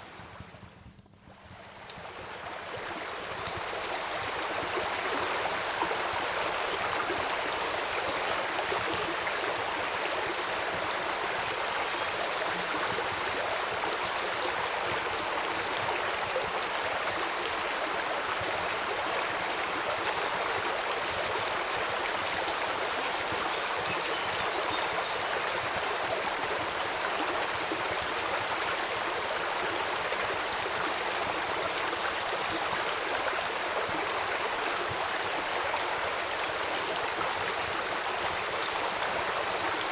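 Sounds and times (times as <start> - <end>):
river water flowing: 1.6 - 39.9.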